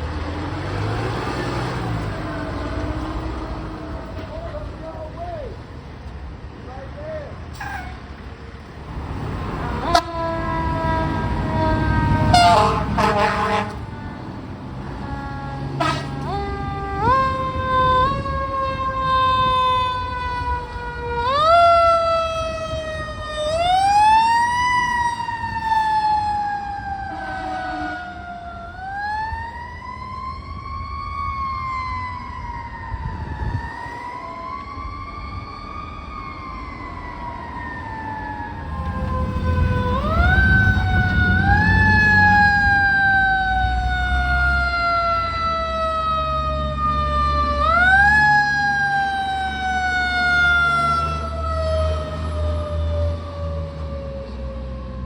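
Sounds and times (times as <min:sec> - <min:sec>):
fire truck siren wailing: 0:00.0 - 0:05.7, 0:07.5 - 0:55.0
truck engine rumble: 0:00.0 - 0:55.0.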